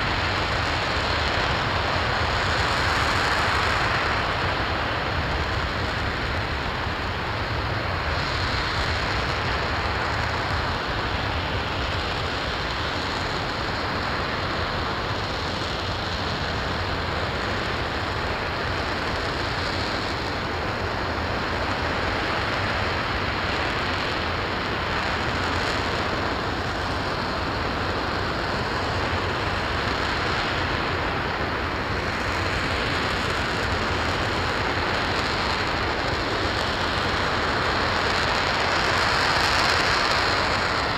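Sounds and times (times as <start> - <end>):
rocket engine roaring: 0.0 - 40.9.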